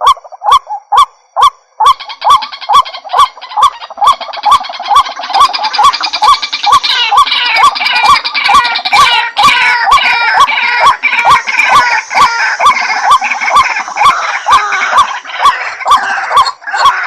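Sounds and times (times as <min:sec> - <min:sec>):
waterhen harsh croaking calls: 0:00.0 - 0:17.0.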